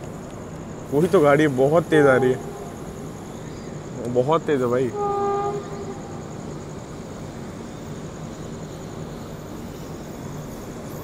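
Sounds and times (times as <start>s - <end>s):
express train rushing past: 0.8s - 11.0s.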